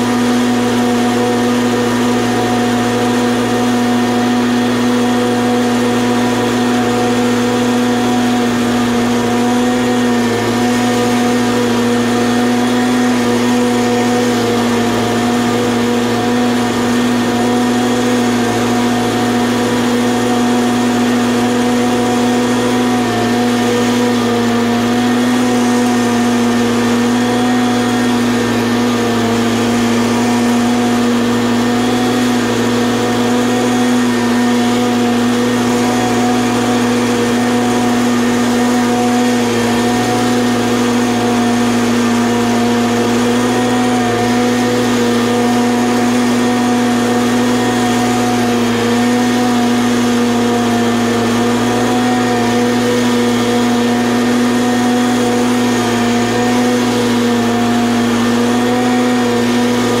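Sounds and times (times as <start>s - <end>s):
mower engine droning: 0.0s - 60.0s.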